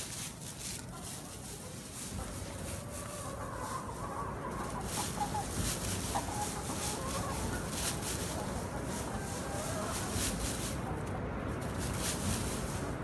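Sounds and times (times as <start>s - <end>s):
hens clucking softly: 0.0s - 13.0s.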